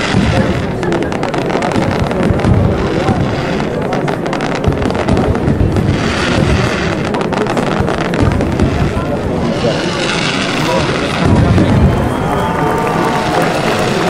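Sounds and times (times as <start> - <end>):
deep rumble of explosions: 0.0 - 14.0
fireworks crackling and banging: 0.0 - 14.0.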